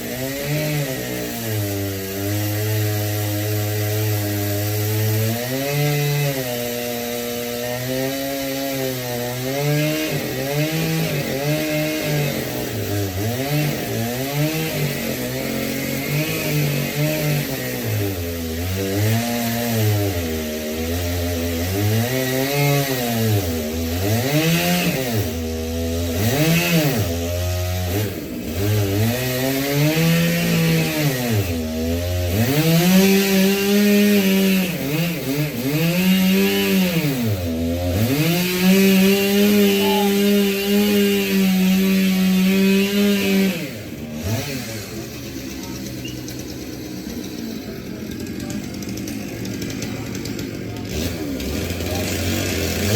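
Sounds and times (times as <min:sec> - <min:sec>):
chainsaw engine revving: 0:00.0 - 0:52.9.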